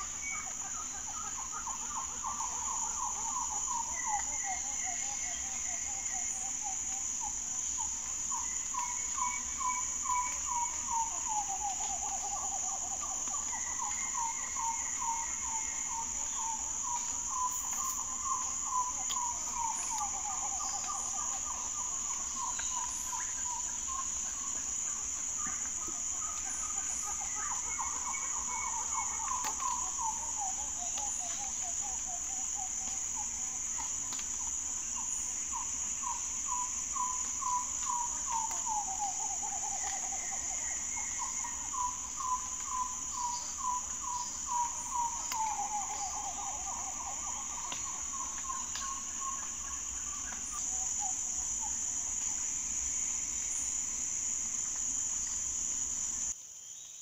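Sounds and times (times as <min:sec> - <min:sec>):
bird singing: 0:00.0 - 0:54.0
insect chorus drone: 0:00.0 - 0:57.0.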